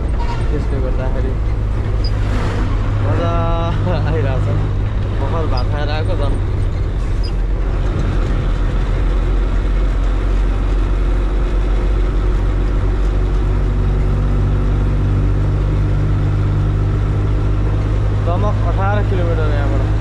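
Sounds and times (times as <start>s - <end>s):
road noise: 0.0s - 20.0s
truck diesel engine running: 0.0s - 20.0s.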